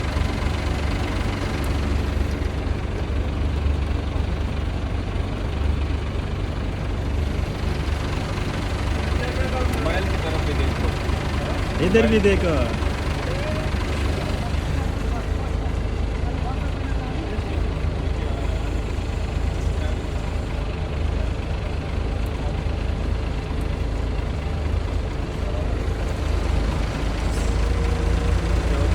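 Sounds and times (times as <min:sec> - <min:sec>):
heavy machine engine rumbling: 0:00.0 - 0:28.9.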